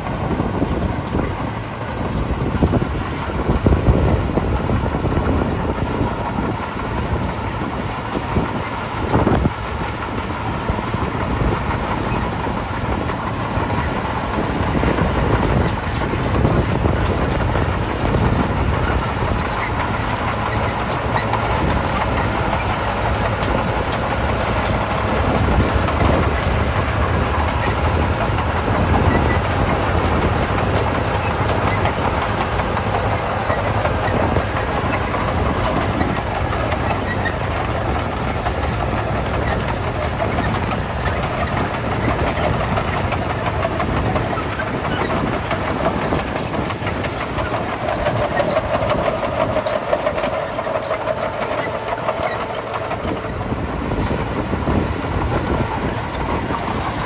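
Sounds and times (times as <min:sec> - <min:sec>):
bulldozer diesel engine running: 0:00.0 - 0:57.0
steel tracks rattling and clanking: 0:00.0 - 0:57.0.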